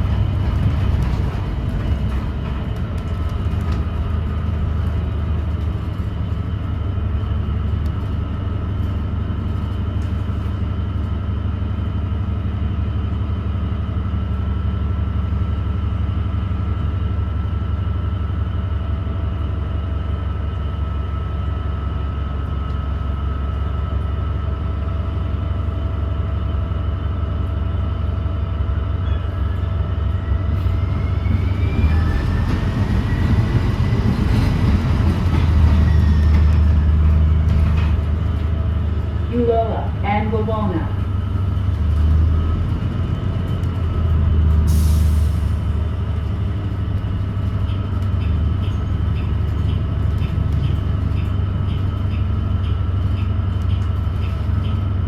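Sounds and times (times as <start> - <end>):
bus drivetrain rumble: 0.0 - 55.0.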